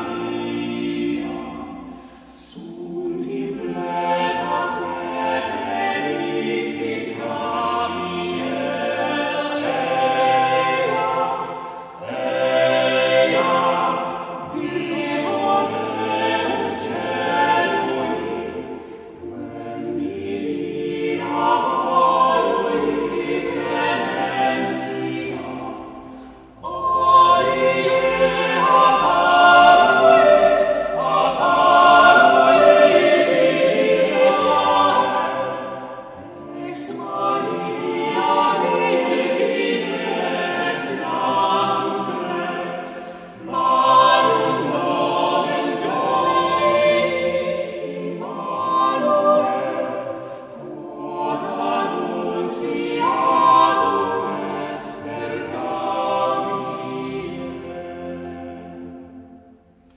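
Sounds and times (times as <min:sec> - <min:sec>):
vocal ensemble singing unaccompanied: 0:00.0 - 0:59.9.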